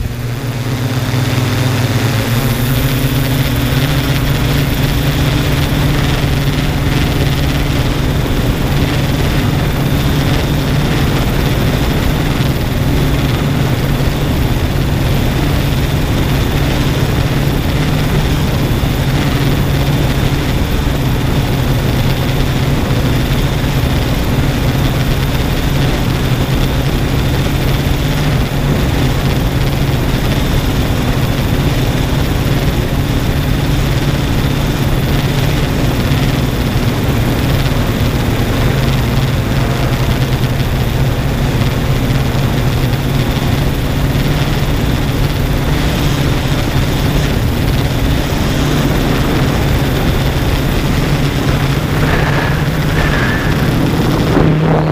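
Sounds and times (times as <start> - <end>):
drone propellers humming: 0.0 - 54.9.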